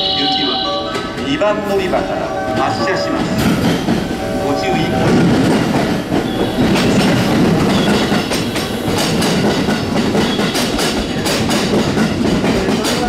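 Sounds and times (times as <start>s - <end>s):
electric train rumbling past: 0.0s - 13.0s
wheels clacking over rail joints: 0.5s - 13.0s.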